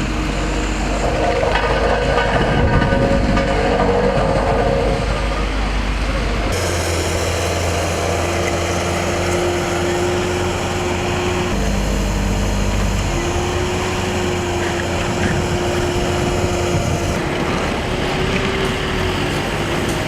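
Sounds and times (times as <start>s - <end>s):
road-repair machinery running: 0.0s - 20.0s
vehicle engines running: 0.0s - 20.0s.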